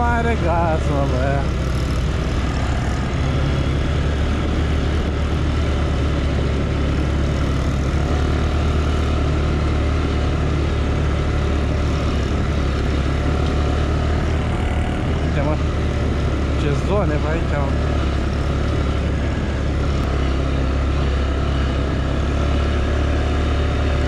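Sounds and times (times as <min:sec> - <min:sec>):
atv engine running steadily: 0:00.0 - 0:24.0.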